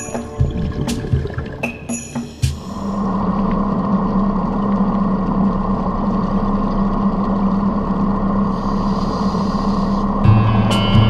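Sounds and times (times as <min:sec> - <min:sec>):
underwater motor hum: 0:00.0 - 0:11.0.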